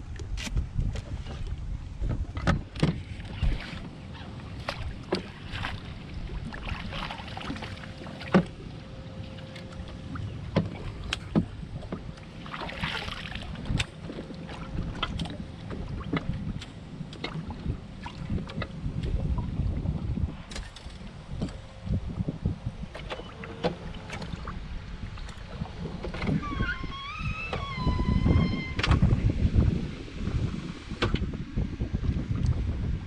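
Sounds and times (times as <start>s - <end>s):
faint steady hum: 0.0s - 33.0s
wind rumble on microphone: 0.0s - 33.0s.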